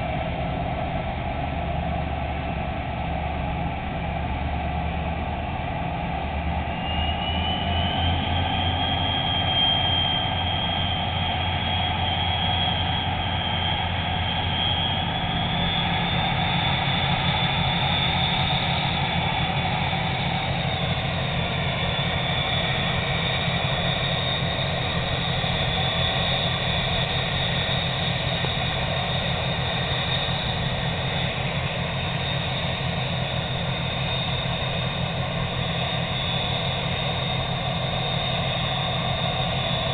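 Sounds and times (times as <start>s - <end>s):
boat diesel engines droning: 0.0s - 39.9s
high steady whine: 0.0s - 39.9s.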